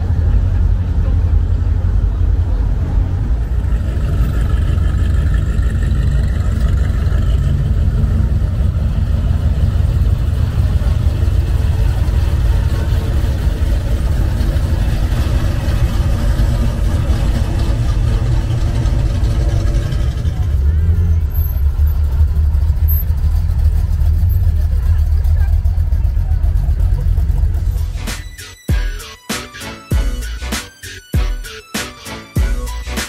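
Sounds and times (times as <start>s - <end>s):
muscle cars driving past: 0.0s - 28.2s.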